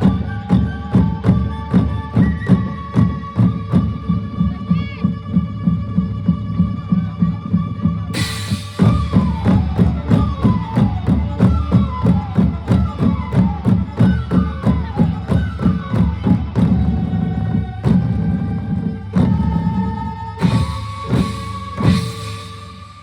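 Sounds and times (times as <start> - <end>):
drums in a fast rhythm: 0.0 - 23.0.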